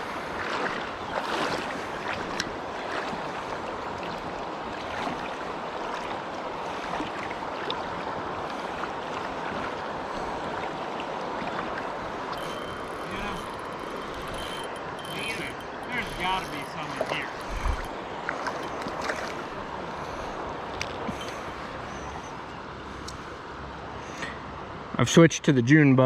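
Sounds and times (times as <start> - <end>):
water rushing and splashing: 0.0 - 24.0.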